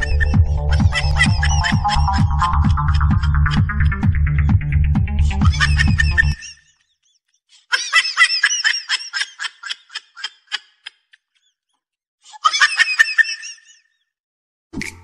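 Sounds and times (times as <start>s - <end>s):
high-pitched laughter: 0.0s - 4.4s, 5.2s - 11.3s, 12.3s - 14.0s.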